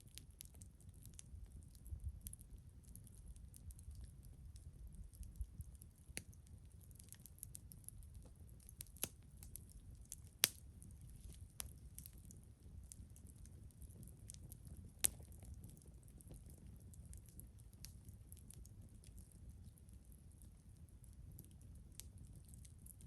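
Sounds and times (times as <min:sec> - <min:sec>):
campfire crackling: 0:00.0 - 0:23.0
low steady rumble: 0:00.0 - 0:23.0.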